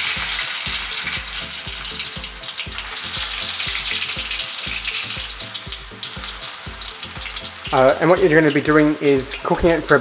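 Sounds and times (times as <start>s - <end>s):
batter sizzling in hot oil: 0.0s - 10.0s.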